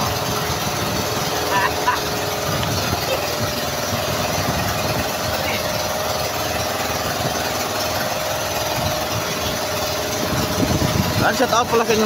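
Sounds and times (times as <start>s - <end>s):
boat engine chugging: 0.0s - 12.0s.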